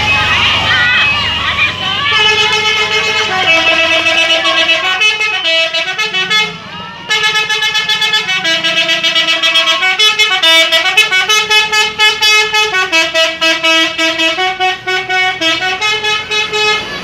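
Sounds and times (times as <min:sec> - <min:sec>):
stuttering musical air horn: 0:01.8 - 0:17.0.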